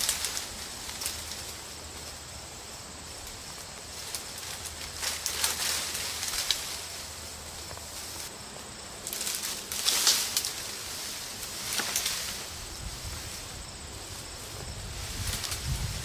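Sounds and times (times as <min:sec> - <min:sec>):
leafy branches dragged through brush: 0:00.0 - 0:16.0.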